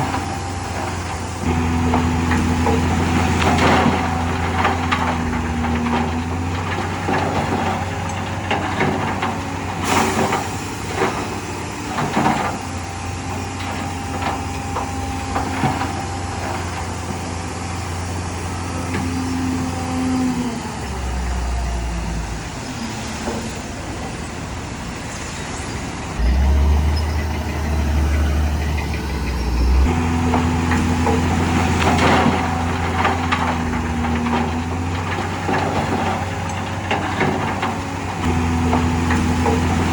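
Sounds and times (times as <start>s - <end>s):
diesel machinery engine: 0.0s - 39.9s.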